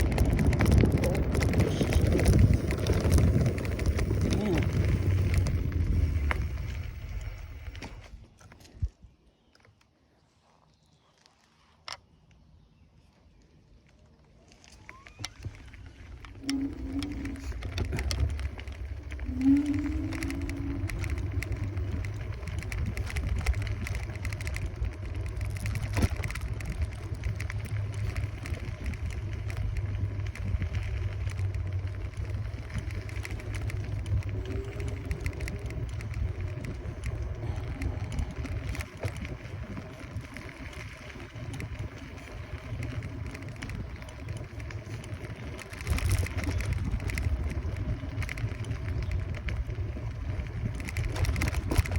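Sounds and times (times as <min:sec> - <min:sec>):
electric scooter motor whine: 0:00.0 - 0:08.7, 0:13.8 - 0:51.9
road noise: 0:00.0 - 0:08.7, 0:13.1 - 0:51.9
wind buffeting microphone: 0:00.0 - 0:09.2, 0:15.2 - 0:51.9.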